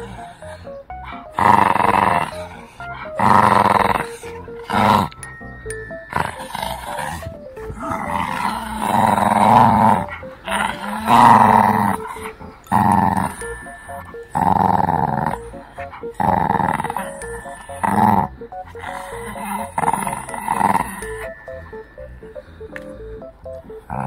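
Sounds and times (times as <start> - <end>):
puppy play-growling: 0.0 - 5.2, 6.0 - 21.6.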